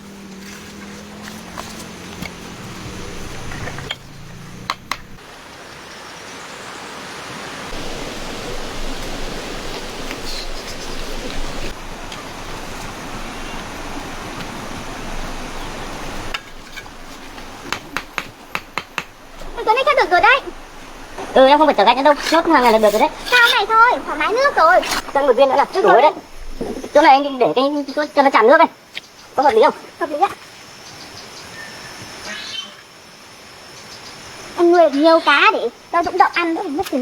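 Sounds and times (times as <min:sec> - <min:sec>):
water rushing: 0:00.0 - 0:30.4.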